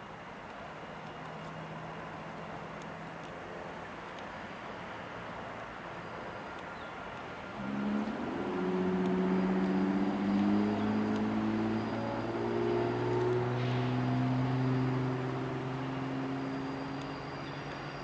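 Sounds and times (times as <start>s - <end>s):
diesel locomotive engines droning: 0.0s - 18.0s.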